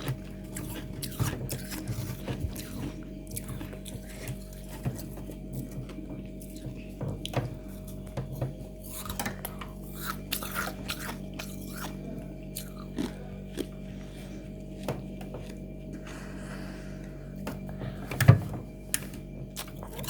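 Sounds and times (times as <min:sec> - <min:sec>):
frost being chewed crunching: 0:00.0 - 0:16.2, 0:19.0 - 0:20.0.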